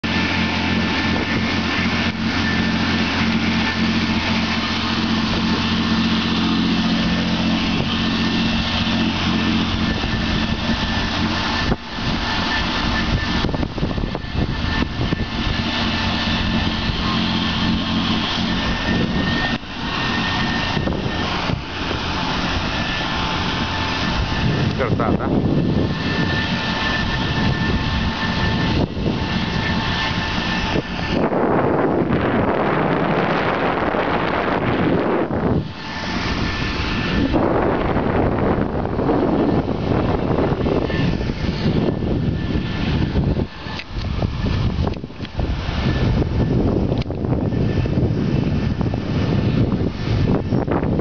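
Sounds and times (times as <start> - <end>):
churning boat wake: 0.0 - 51.0
gusty wind on microphone: 0.0 - 51.0
motorboat engine running: 0.0 - 51.0.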